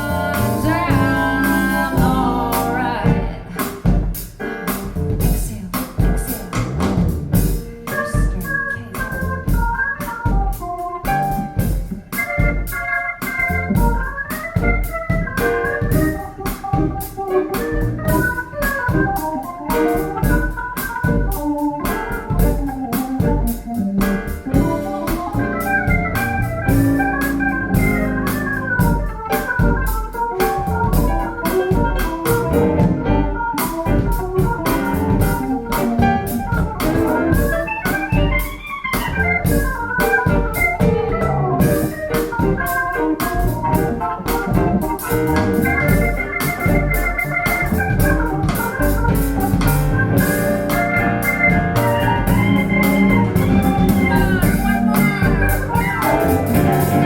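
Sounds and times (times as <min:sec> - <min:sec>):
organ-like keyboard chords: 0:00.0 - 0:05.2, 0:06.0 - 0:57.0
steady beat: 0:00.0 - 0:57.0.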